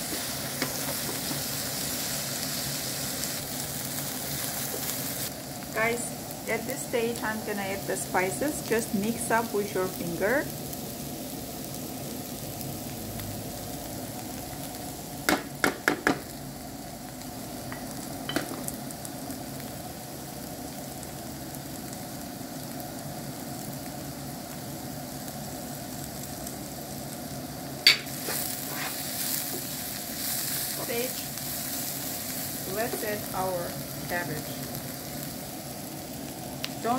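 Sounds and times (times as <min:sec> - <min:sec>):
vegetables sizzling in oil: 0:00.0 - 0:36.9.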